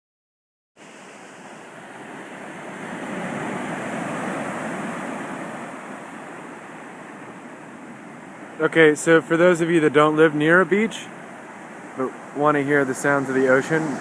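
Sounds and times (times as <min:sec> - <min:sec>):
ocean wave washing in: 0:00.8 - 0:14.0.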